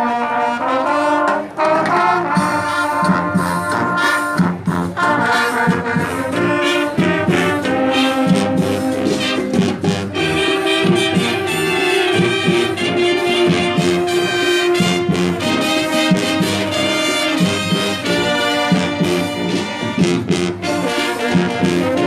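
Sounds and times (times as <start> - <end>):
brass band trumpets and trombones: 0.0 - 22.0
drums: 1.2 - 22.0.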